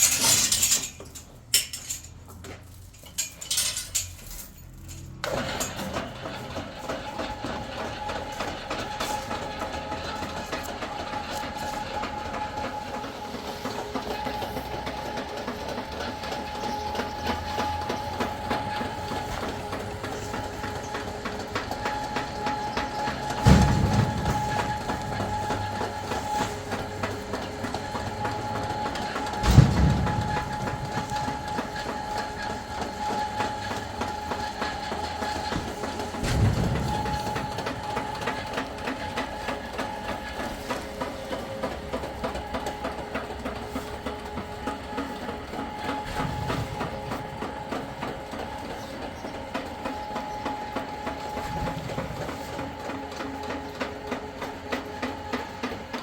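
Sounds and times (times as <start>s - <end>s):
constant whining tone: 0.0s - 56.0s
mechanical clatter: 0.0s - 56.0s.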